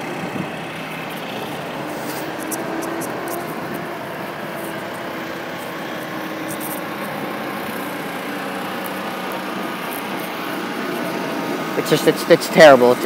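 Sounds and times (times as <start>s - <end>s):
steady engine noise: 0.0s - 13.0s.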